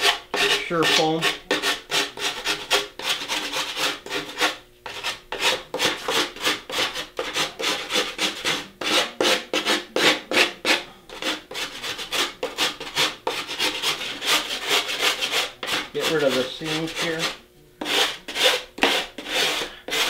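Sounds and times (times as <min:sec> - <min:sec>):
rasp scraping foam: 0:00.0 - 0:20.0.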